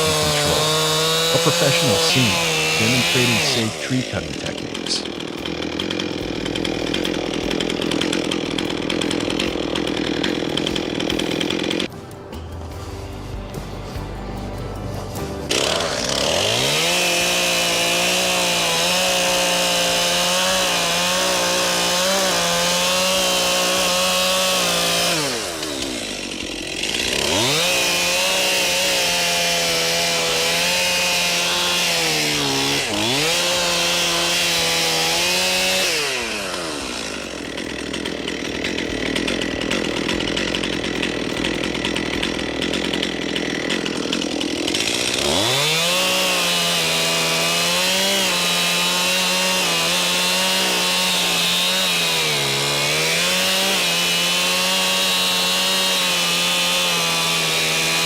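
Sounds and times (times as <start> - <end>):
chainsaw engine revving: 0.0 - 11.9, 15.5 - 58.0.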